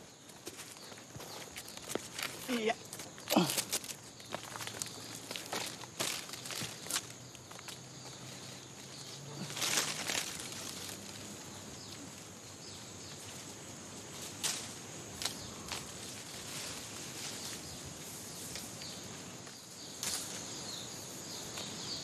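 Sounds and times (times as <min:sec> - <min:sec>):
footsteps in undergrowth: 0:00.0 - 0:22.0
high hiss of outdoor ambience: 0:00.0 - 0:22.0.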